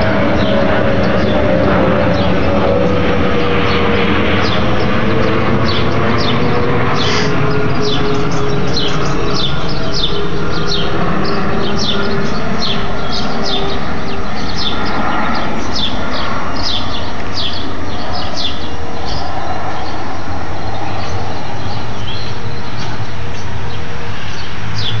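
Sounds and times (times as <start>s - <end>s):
birds chirping: 0.0s - 25.0s
jet airliner passing overhead: 0.0s - 25.0s.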